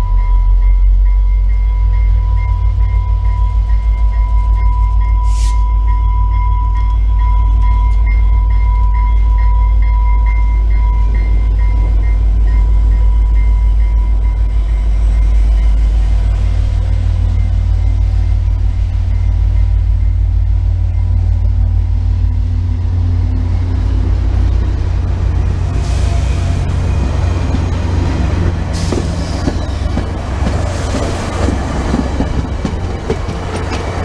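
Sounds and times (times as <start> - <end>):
diesel locomotive rumble: 0.0 - 34.0
train wheels rumbling on rails: 0.0 - 34.0.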